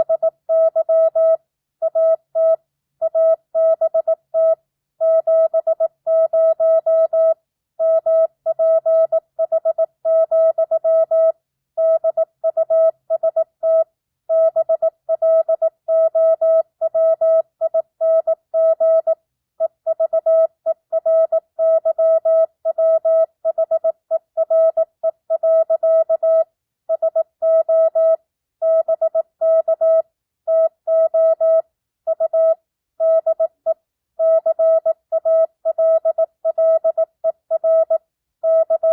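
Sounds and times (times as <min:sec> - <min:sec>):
morse code beeps: 0:00.0 - 0:19.2, 0:19.9 - 0:33.5, 0:34.2 - 0:38.9.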